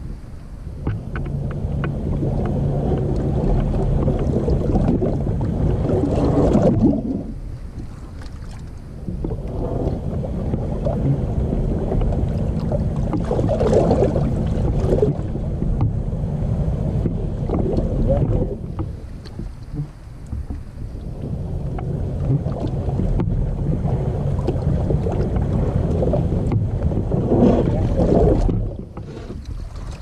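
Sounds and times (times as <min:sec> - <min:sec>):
water lapping at boat hull: 0:00.0 - 0:30.0
wind rumbling on microphone: 0:00.0 - 0:30.0.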